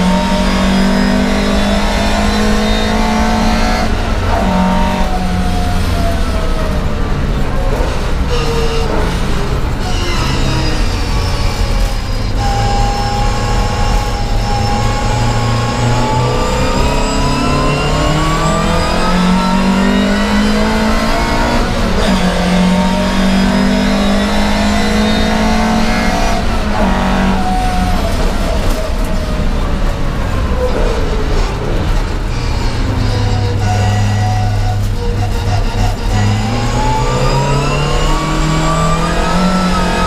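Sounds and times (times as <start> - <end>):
race car engine revving: 0.0 - 40.0.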